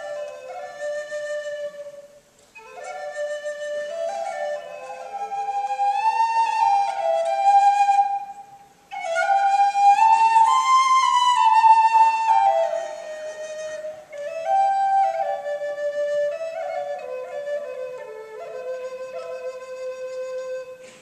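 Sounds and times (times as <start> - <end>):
flute playing slow melody: 0.0 - 21.0.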